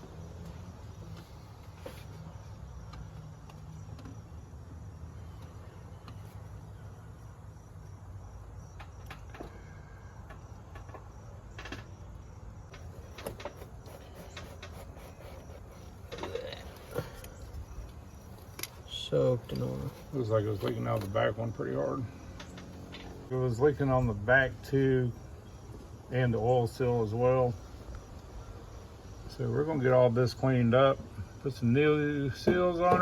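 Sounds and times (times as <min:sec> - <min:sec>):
pulsing high insect chirping: 0:02.3 - 0:32.8.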